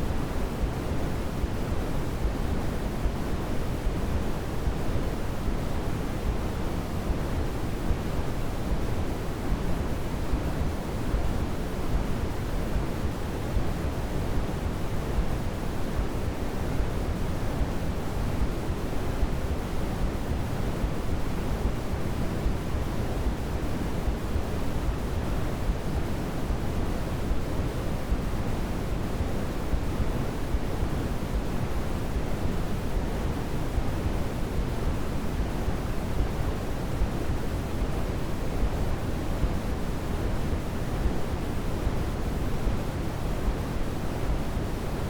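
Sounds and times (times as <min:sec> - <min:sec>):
steady low hiss noise: 0:00.0 - 0:45.0.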